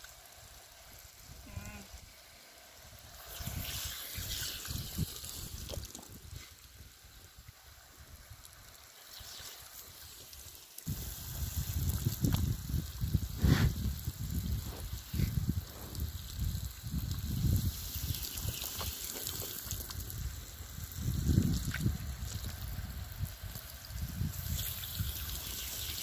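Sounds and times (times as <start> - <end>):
garden hose spraying water: 0.0 - 26.0.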